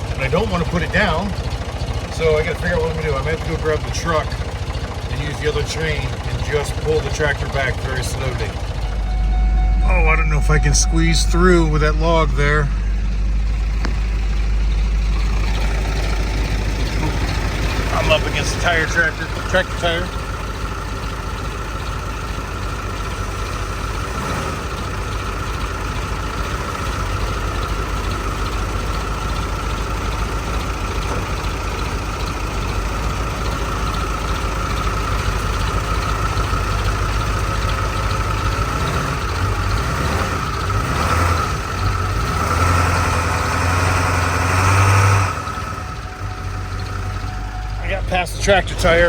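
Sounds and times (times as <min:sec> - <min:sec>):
vehicle engine idling and revving: 0:00.0 - 0:49.0.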